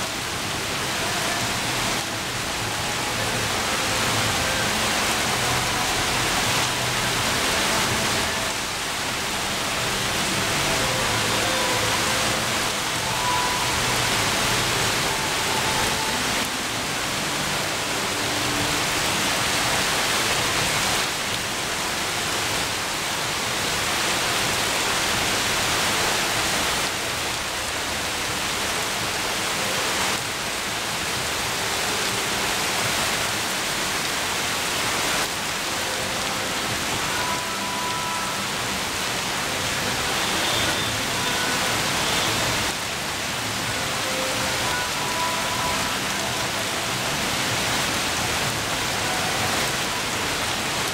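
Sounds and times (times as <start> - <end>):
heavy rain on trees: 0.0 - 50.9.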